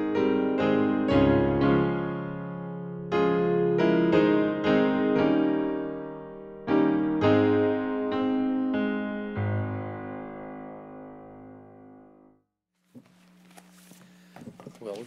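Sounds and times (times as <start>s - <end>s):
slow piano chords: 0.0s - 12.4s.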